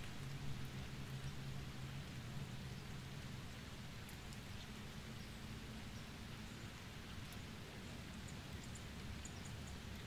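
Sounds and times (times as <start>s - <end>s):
faint rain hiss: 0.0s - 10.0s
light drip ticks: 0.0s - 10.0s.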